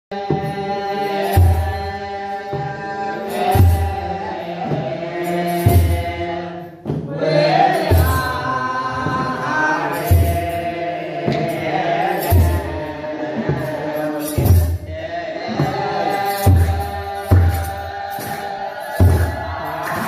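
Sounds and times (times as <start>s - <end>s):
men chanting a hymn: 0.1s - 20.0s.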